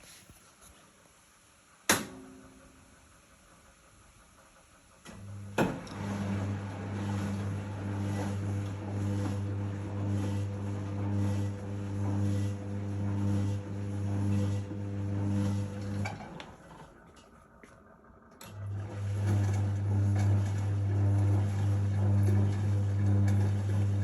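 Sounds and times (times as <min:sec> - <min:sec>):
washing machine hum: 0:00.0 - 0:24.0.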